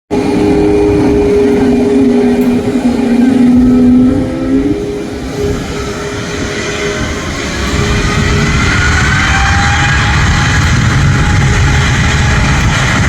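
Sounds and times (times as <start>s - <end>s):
deep engine rumble: 0.1s - 13.0s
jet engines humming: 0.1s - 13.0s.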